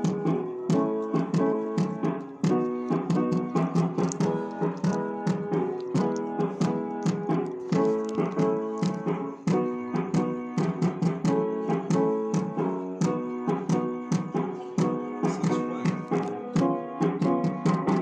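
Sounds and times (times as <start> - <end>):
keyboard playing chords: 0.0 - 18.0
steady regular beat: 0.0 - 18.0.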